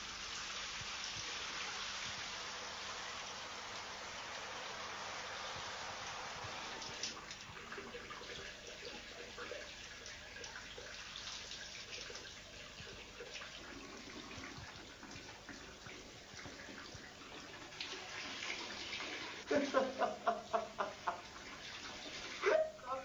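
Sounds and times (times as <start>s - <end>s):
small water drips: 0.0s - 22.8s
water running: 0.0s - 23.0s.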